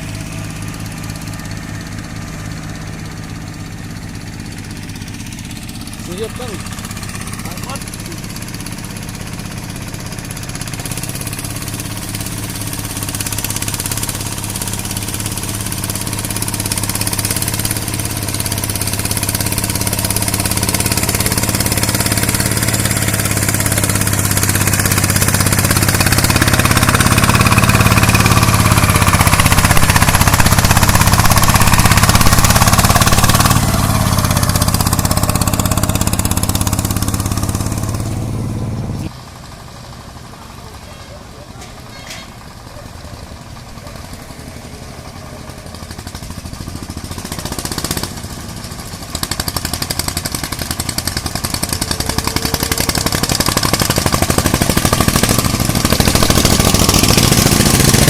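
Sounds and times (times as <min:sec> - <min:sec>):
farm machine engine running: 0:00.0 - 0:58.0.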